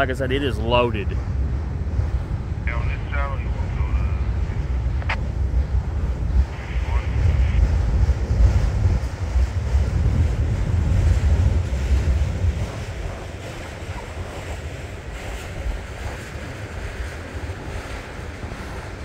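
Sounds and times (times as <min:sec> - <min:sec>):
train wheels rumbling on rail: 0:00.0 - 0:19.0
wind buffeting microphone: 0:00.0 - 0:19.0.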